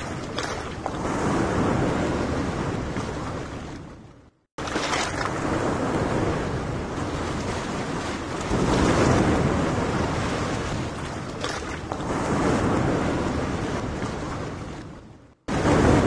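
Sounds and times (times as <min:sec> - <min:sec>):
small waves washing on sand: 0:00.0 - 0:03.6, 0:04.6 - 0:14.9, 0:15.5 - 0:16.0
wind buffeting microphone: 0:00.0 - 0:16.0.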